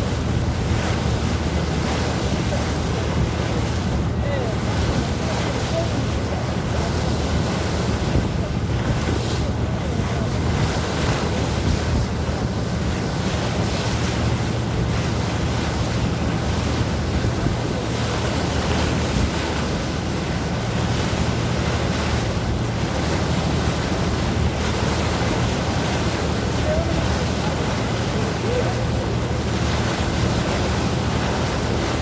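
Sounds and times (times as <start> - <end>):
boat engine drone: 0.0 - 32.0
water splashing against boat: 0.0 - 32.0
wind buffeting microphone: 0.0 - 32.0.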